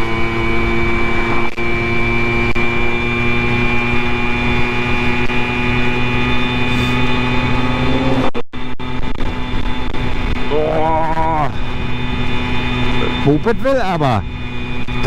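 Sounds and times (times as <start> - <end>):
moped engine running: 0.0 - 15.0.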